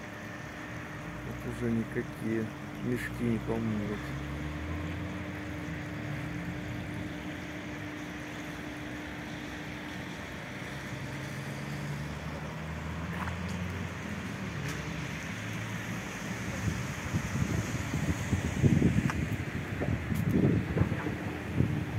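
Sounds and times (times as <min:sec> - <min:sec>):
low engine drone: 0:00.0 - 0:21.9.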